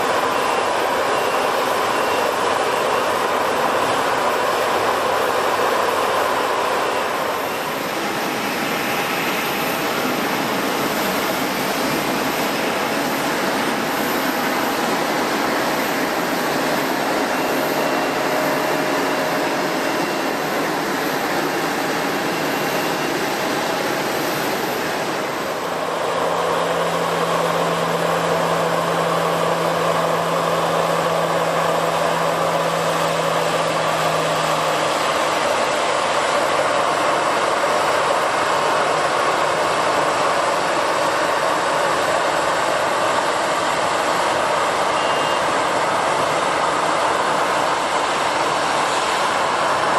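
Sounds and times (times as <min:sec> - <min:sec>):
jet engines rushing: 0:00.0 - 0:49.9.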